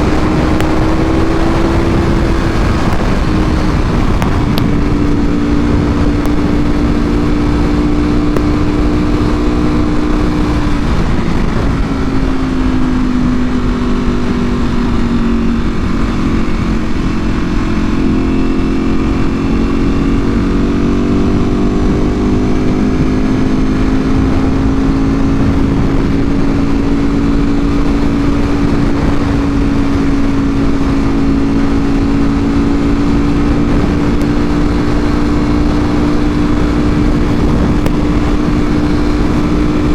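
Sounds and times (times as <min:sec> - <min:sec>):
motorcycle engine cruising: 0:00.0 - 0:39.9
rushing noise: 0:00.0 - 0:39.9.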